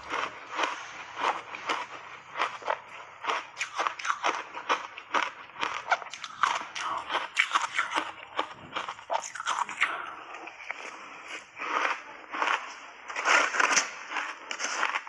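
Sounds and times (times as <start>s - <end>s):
person chewing crunchy ice: 0.0s - 15.0s.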